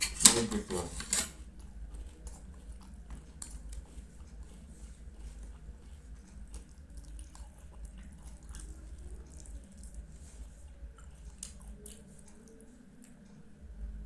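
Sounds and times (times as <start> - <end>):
steady low hum: 0.0 - 14.0
person chewing wet food: 1.4 - 13.7.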